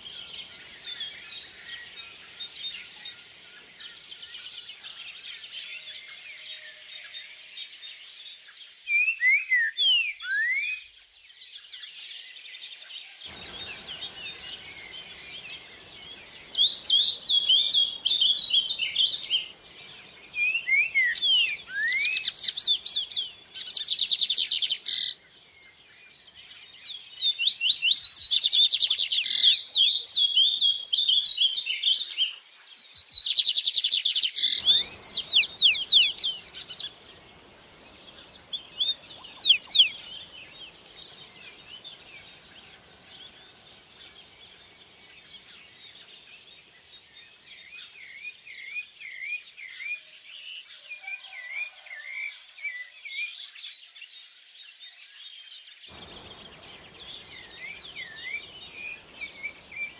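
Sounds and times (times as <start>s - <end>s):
faint bird chirping: 0.0s - 59.9s
songbirds trilling and whistling: 0.0s - 59.9s.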